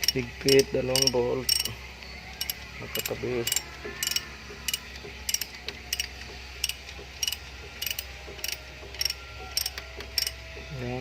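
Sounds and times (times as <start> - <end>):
ratchet wrench clicking: 0.0 - 1.8, 2.4 - 10.4.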